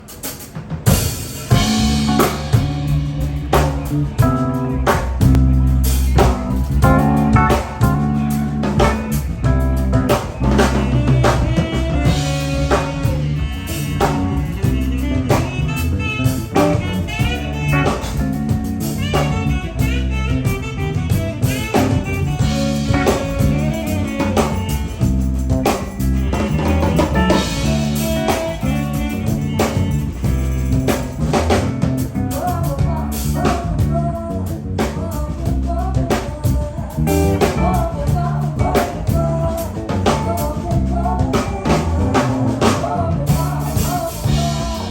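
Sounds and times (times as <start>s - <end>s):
bass and electric guitar: 0.0s - 44.9s
drum kit beat: 0.0s - 44.9s
lead melody line: 0.9s - 44.9s.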